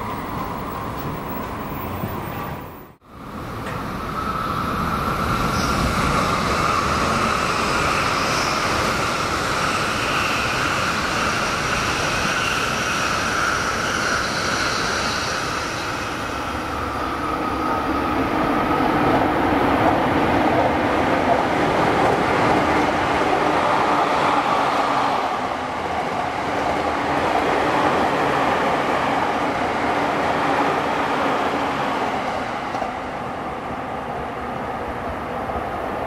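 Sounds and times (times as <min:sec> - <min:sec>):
second train rumble: 0:00.0 - 0:36.0
train wheels rushing on rail: 0:00.0 - 0:36.0.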